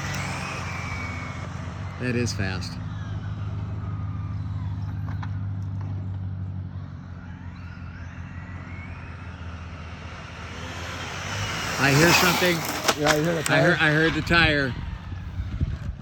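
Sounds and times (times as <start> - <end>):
rc car motor whine: 0.0 - 16.0.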